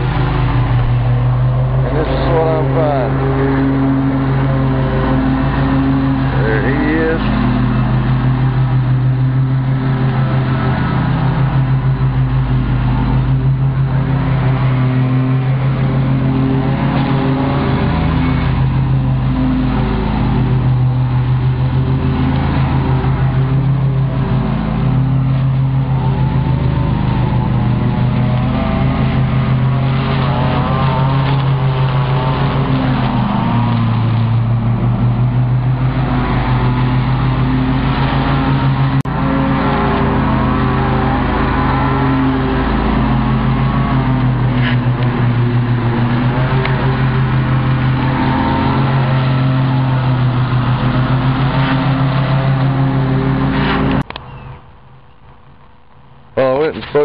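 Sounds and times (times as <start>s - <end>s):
riding mower engine drone: 0.0s - 57.0s.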